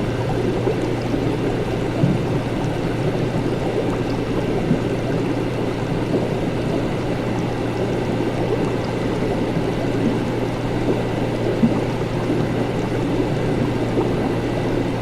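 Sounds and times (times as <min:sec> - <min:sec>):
liquid bubbling and gurgling: 0:00.0 - 0:15.0
low equipment hum: 0:00.0 - 0:15.0.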